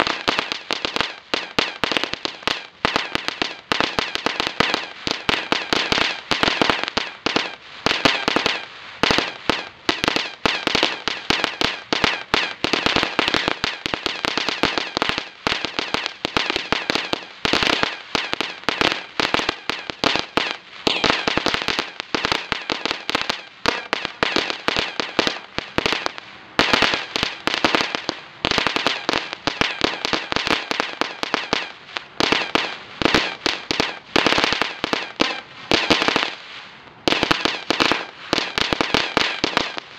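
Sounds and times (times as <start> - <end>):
firework hissing: 0.0 - 39.9
ground firework crackling: 0.0 - 39.9.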